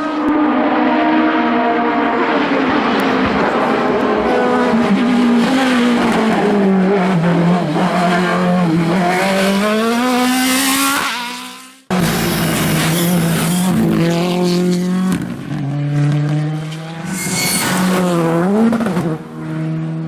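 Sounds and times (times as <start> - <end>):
racing car engine at full throttle: 0.0 - 20.0.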